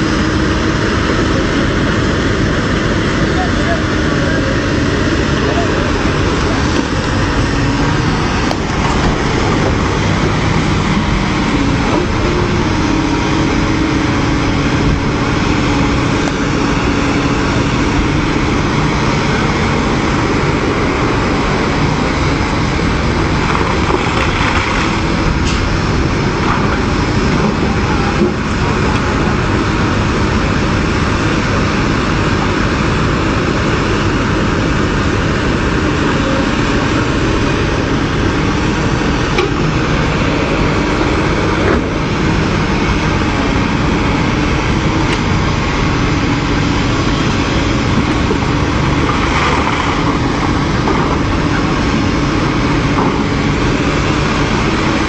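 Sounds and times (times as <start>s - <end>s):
excavator diesel engines running: 0.0s - 55.0s.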